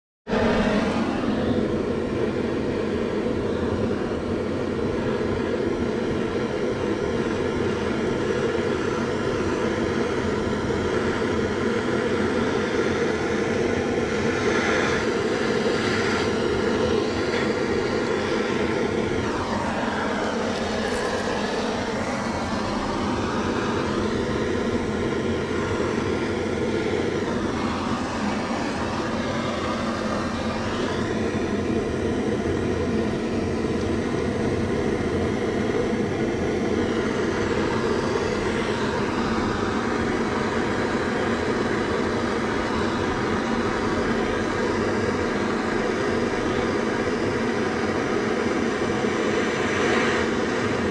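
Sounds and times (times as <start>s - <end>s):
gas torch burning: 0.4s - 50.9s.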